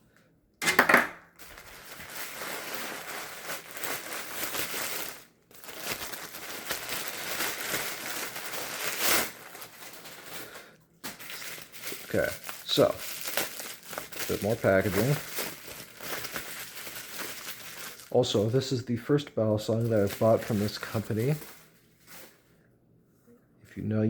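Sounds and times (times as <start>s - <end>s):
packaging being torn and crumpled: 1.4s - 18.6s, 19.6s - 22.3s.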